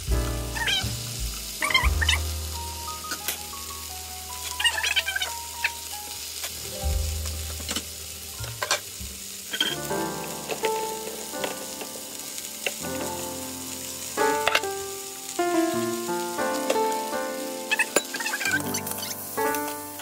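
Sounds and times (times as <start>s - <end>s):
chicken sizzling in a pan: 0.0s - 20.0s
oil popping and crackling: 0.0s - 20.0s.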